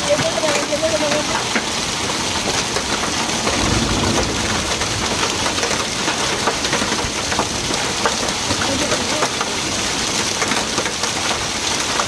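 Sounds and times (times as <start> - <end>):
hailstones ticking on ground: 0.0 - 12.0
rain hissing: 0.2 - 12.0.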